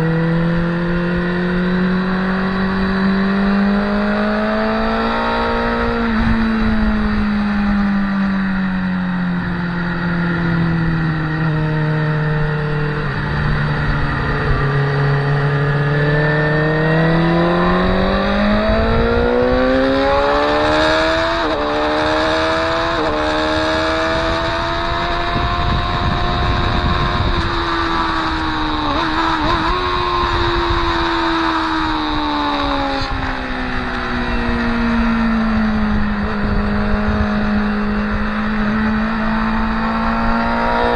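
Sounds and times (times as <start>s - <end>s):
motorcycle engine accelerating: 0.0s - 40.9s
wind rush: 2.1s - 8.1s, 12.8s - 40.9s.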